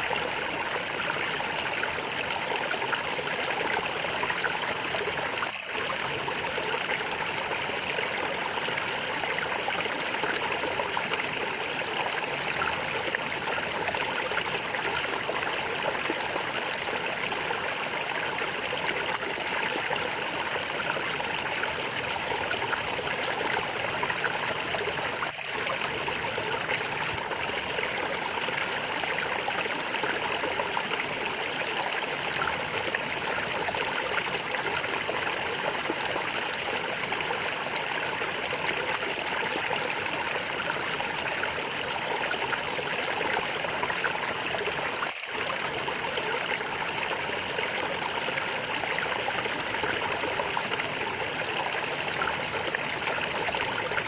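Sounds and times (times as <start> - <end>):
water gurgling over stones: 0.0 - 54.0.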